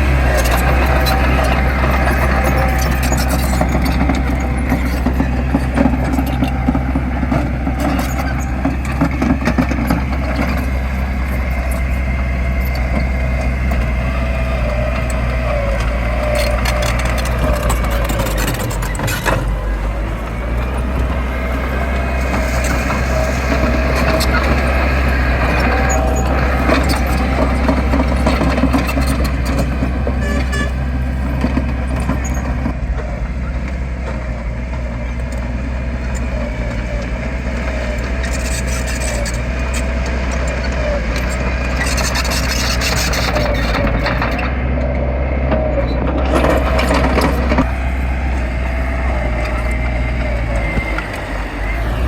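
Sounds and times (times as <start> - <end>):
heavy diesel engine droning: 0.0 - 52.0.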